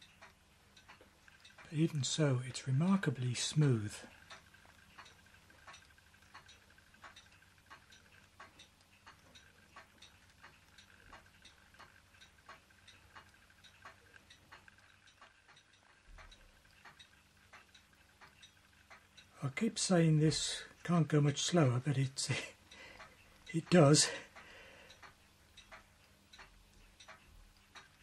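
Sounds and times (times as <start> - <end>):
faint mechanical ticking: 0.0 - 28.0.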